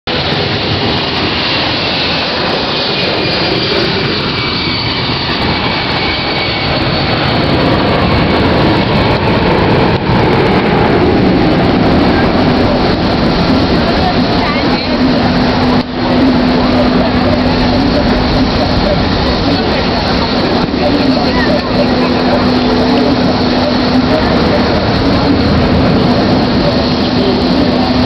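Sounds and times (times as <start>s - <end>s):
airplane engines roaring: 0.1s - 28.0s.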